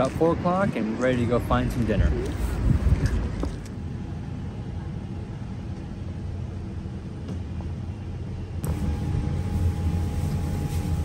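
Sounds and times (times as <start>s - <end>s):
faint steady hum: 1.9s - 11.0s.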